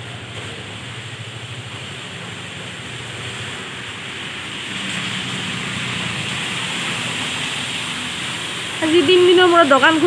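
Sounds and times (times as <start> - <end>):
car driving through floodwater: 0.0 - 10.0
steady rushing noise: 0.0 - 10.0.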